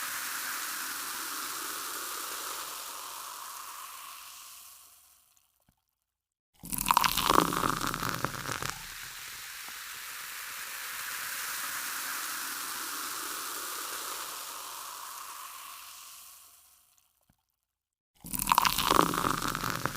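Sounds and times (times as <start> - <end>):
soda water fizzing: 0.0 - 5.4, 6.6 - 17.0, 18.2 - 19.9.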